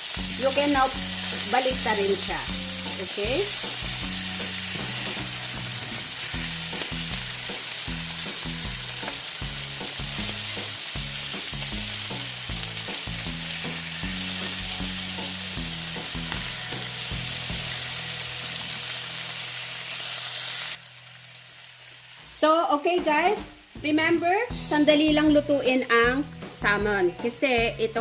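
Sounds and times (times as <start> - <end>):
fish sizzling in a pan: 0.0 - 25.1.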